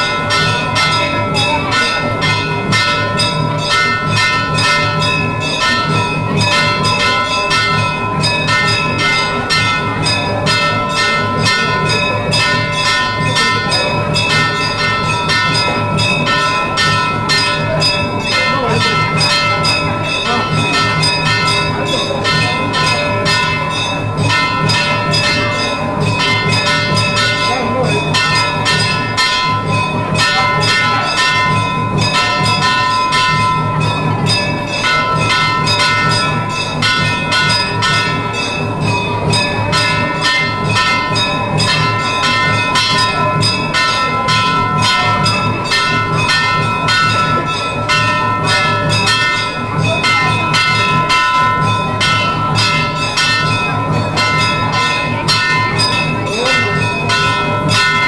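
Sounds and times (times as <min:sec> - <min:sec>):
bells ringing rapidly: 0:00.0 - 0:58.0.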